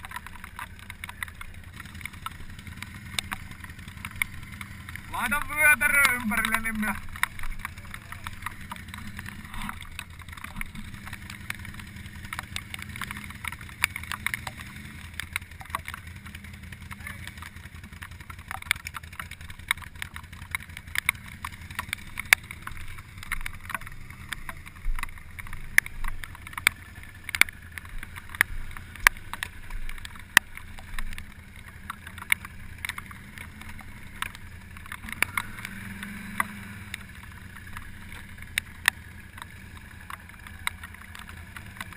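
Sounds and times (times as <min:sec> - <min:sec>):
atv engine idling: 0:00.0 - 0:41.9
sharp irregular ticks: 0:00.0 - 0:41.9.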